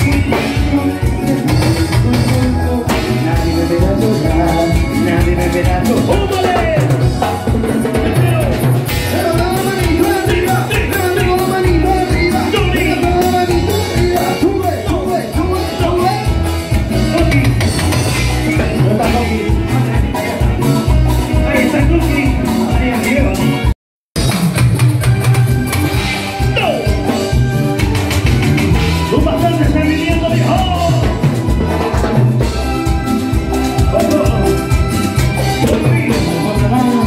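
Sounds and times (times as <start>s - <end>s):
person singing: 0.0s - 23.7s, 28.8s - 37.0s
bass and drum beat: 0.0s - 37.0s
latin dance band playing: 0.0s - 37.0s.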